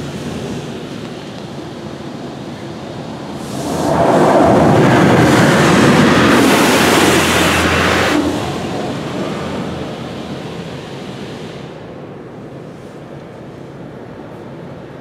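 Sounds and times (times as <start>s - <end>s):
car wash water jets hissing: 0.0s - 15.0s.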